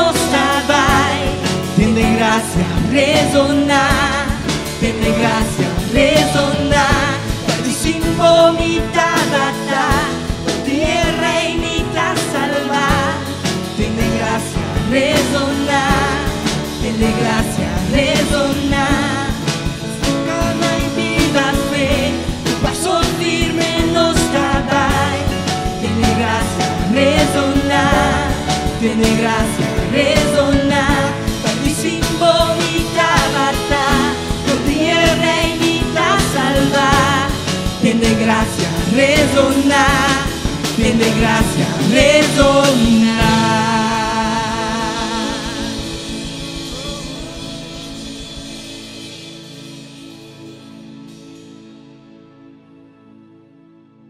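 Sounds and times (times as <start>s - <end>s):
steady drum beat: 0.0s - 50.4s
people singing with vibrato: 0.0s - 50.6s
acoustic guitar: 0.0s - 53.2s
keyboard: 0.0s - 54.0s.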